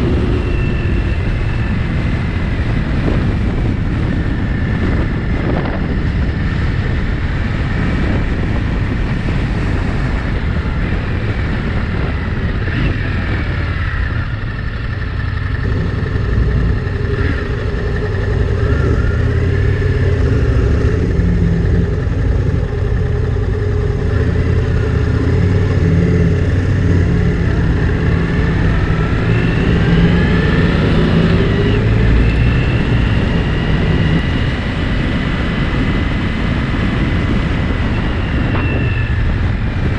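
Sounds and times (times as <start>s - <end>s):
motorcycle engine rumbling: 0.0s - 39.9s
wind on microphone: 0.0s - 39.9s.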